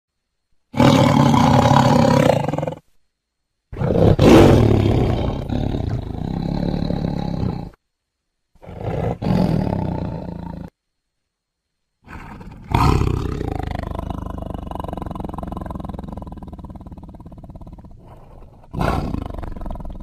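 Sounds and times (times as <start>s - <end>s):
tiger roaring: 0.7s - 2.9s, 3.7s - 7.8s, 8.6s - 10.7s, 12.0s - 20.0s.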